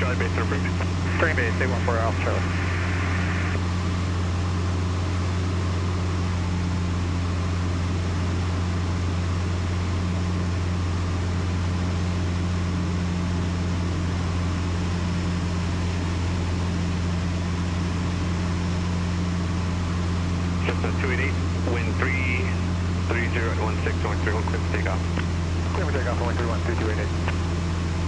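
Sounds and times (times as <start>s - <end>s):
airplane engine and propeller: 0.0s - 28.0s.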